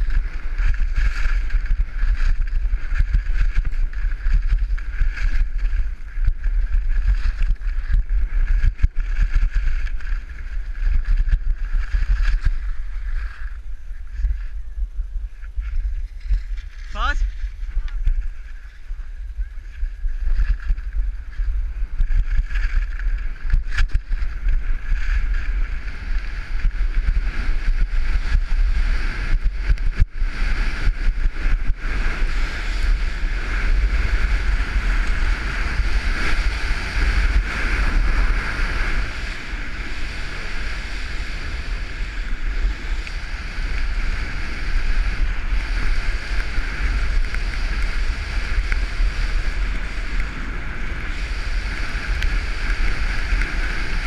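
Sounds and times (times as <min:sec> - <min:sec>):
skis scraping on snow: 0:00.0 - 0:54.0
wind buffeting microphone: 0:00.0 - 0:54.0.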